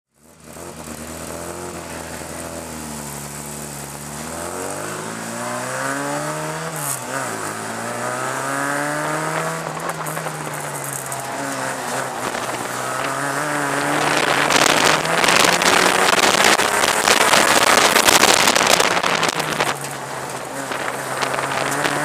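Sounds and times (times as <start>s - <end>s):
race car engine revving: 0.2s - 22.0s.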